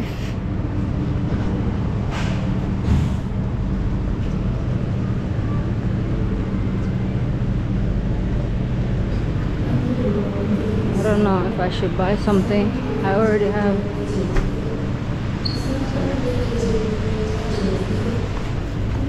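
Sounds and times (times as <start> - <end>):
diesel train engine idling: 0.0 - 19.0.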